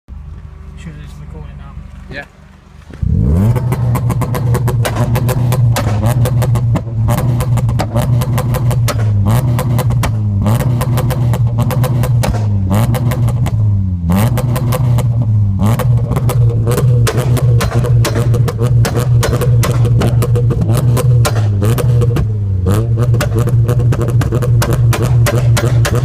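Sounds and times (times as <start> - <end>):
car engine on rev limiter: 0.2 - 26.0.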